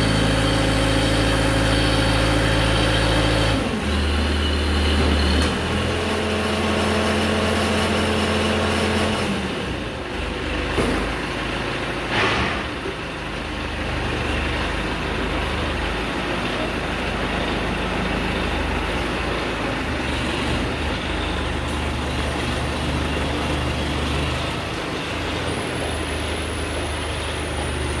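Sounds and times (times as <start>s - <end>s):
crane diesel engine running: 0.0s - 28.0s.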